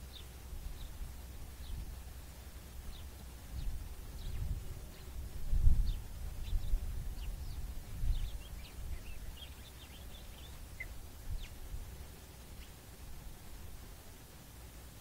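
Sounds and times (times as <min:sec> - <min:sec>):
wind rumbling on microphone: 0:00.0 - 0:14.1
small birds chirping: 0:00.0 - 0:15.0.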